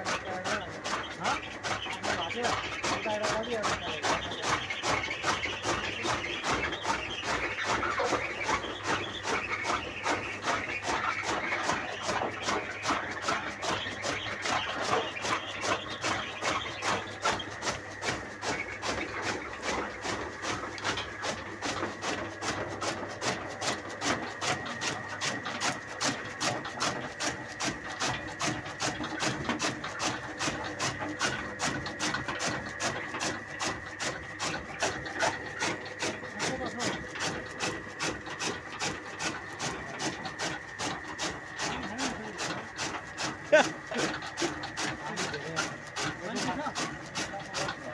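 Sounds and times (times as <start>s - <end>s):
chaff cutter chopping: 0.0s - 47.9s.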